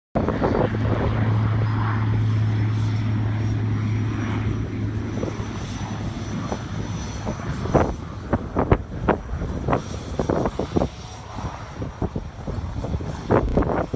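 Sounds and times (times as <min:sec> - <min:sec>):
turboprop engine humming: 0:00.2 - 0:13.9.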